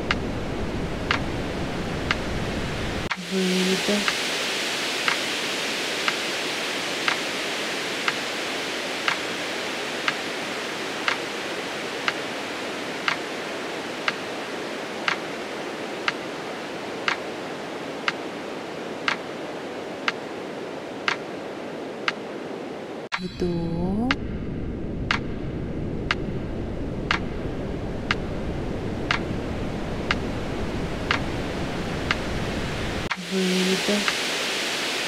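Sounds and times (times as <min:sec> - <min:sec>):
steady hiss: 0:00.0 - 0:23.6, 0:25.0 - 0:35.0.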